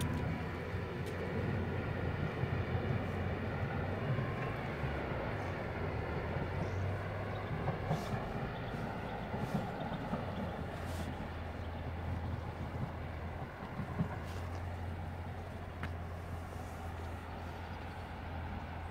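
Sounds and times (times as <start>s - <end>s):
electric train hum and rumble: 0.0s - 18.9s.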